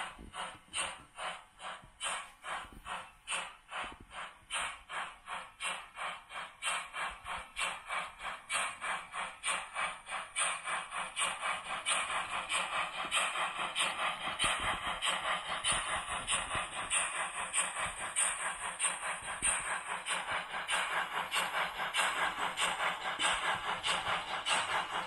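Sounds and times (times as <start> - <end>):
model steam locomotive exhaust chuffs: 0.0 - 25.0.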